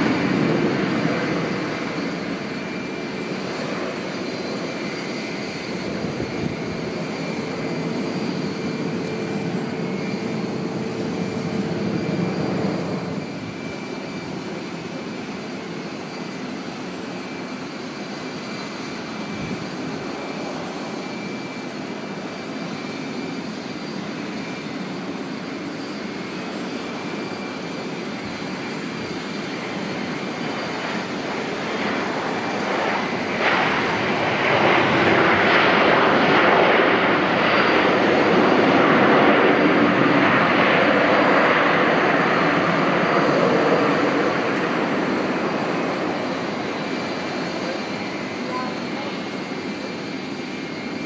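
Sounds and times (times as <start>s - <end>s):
airliner engines passing: 0.0s - 51.0s.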